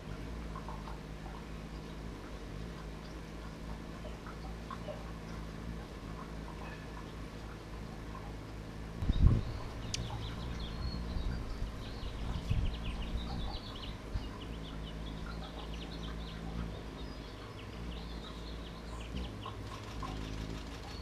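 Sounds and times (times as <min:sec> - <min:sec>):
hummingbird wings humming: 0:00.0 - 0:21.0.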